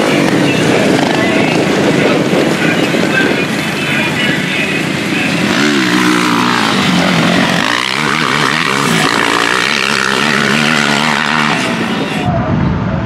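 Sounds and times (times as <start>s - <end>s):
atv engines revving: 0.0s - 12.4s.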